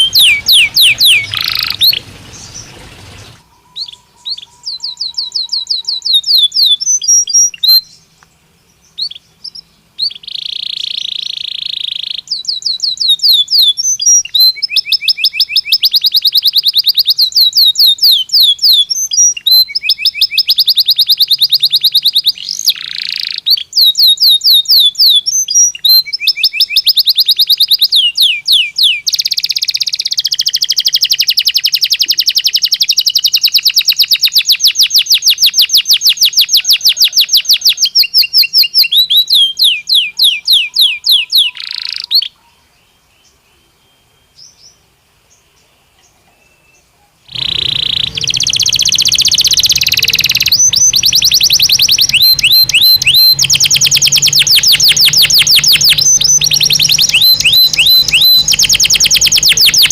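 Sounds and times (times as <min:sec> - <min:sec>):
canary singing trills: 0:00.0 - 0:44.8, 0:46.3 - 0:59.9.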